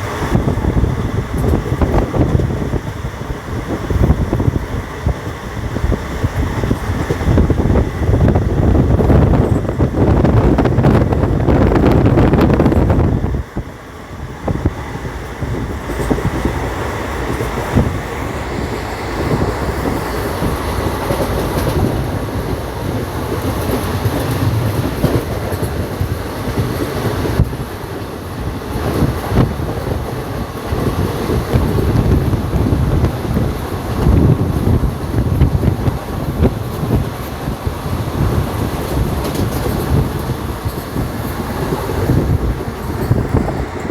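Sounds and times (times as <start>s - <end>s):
moving vehicle rumbling and rattling: 0.0s - 43.9s.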